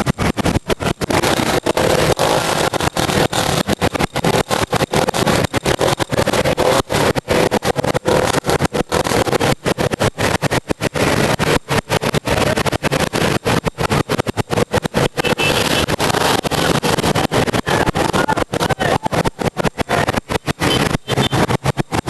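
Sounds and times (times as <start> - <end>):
motorcycle engines roaring: 0.0 - 22.0.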